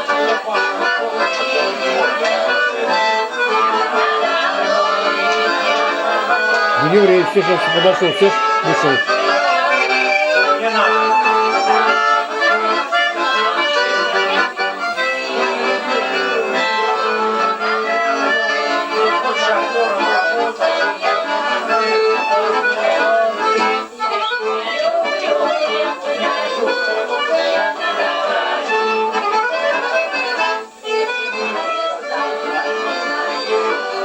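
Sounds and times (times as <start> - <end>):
button accordion playing: 0.0 - 34.0.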